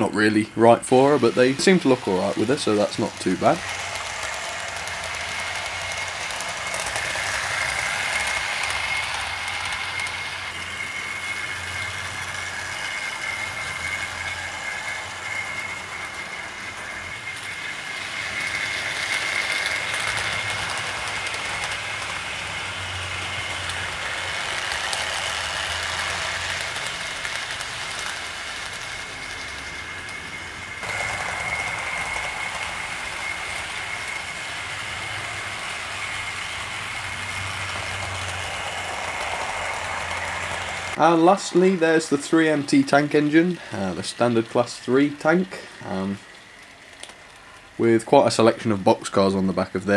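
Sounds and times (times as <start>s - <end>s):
high electric motor whine: 0.0s - 49.8s
metal wheels rushing on track: 0.0s - 49.9s.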